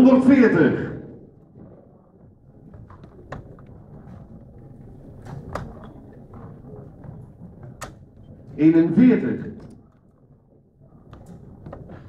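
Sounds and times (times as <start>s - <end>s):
low murmur of sports hall: 0.0s - 12.0s.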